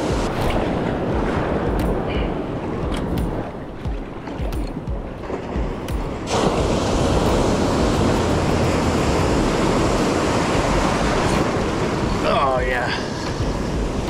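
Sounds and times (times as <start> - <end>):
waves breaking: 0.0 - 14.0
whitewater rushing in shallows: 0.0 - 14.0.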